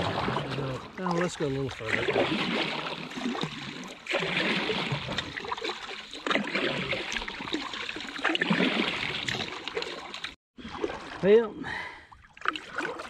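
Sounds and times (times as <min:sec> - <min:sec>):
water trickling off paddle: 0:00.0 - 0:11.4, 0:12.1 - 0:13.0
kayak paddle splashing: 0:00.0 - 0:11.5, 0:12.2 - 0:13.0.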